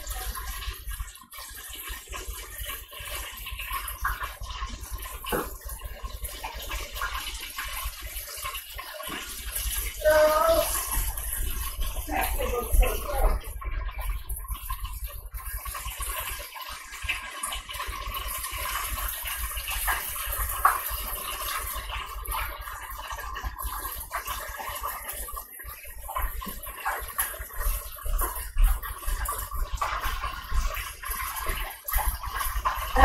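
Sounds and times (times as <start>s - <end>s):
oil bubbling and sizzling: 0.0s - 33.0s.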